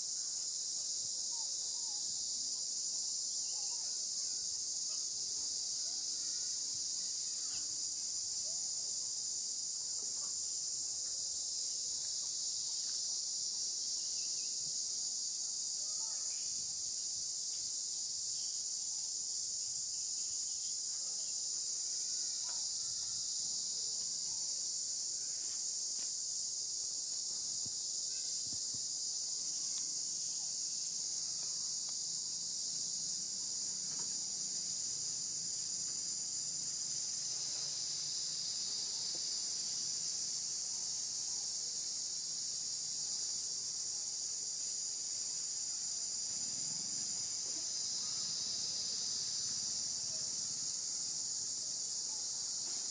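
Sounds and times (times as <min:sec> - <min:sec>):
insect chorus shrill drone: 0:00.0 - 0:52.9.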